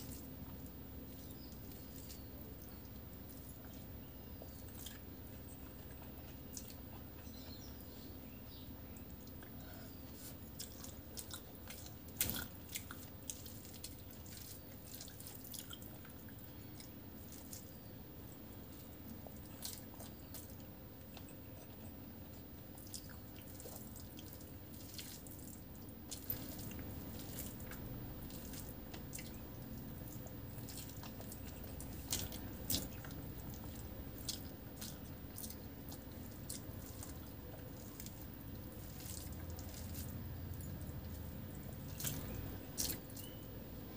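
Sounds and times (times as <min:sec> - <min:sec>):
wet chewing clicks and smacks: 0:00.0 - 0:43.8
low background hum: 0:00.0 - 0:43.9.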